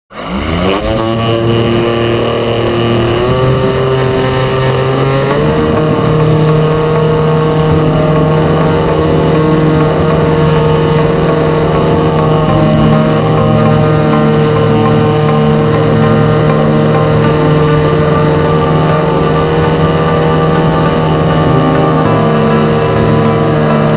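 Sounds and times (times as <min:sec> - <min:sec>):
model airplane motor and propeller: 0:00.1 - 0:23.9.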